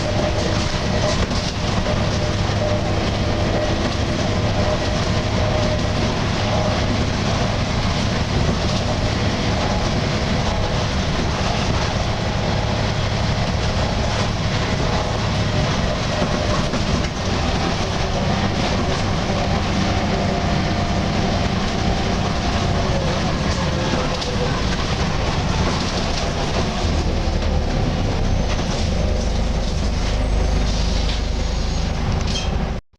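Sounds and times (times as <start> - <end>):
bus diesel engine droning: 0.0 - 32.8.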